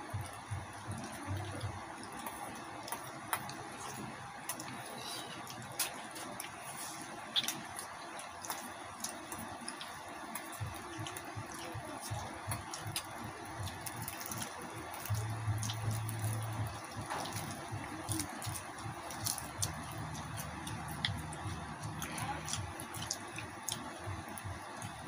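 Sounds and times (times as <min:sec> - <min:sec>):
meat squishing and tearing: 0:00.2 - 0:25.0.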